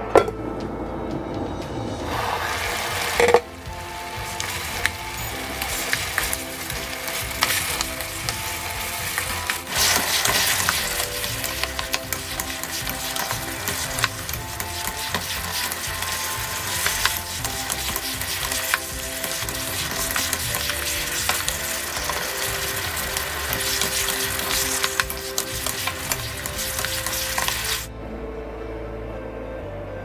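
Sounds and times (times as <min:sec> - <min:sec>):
background music: 0:00.0 - 0:30.0
sauce sizzling hard: 0:02.1 - 0:27.9.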